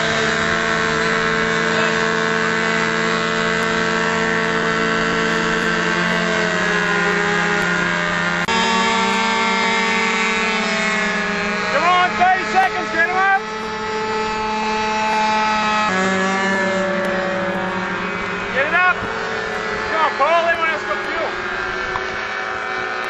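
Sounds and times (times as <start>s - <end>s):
small model plane engines buzzing: 0.0s - 23.0s.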